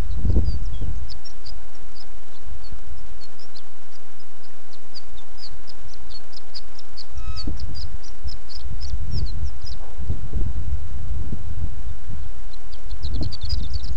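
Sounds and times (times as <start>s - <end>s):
small birds chirping: 0.0s - 10.2s, 11.8s - 13.9s
low rumble: 0.0s - 13.9s.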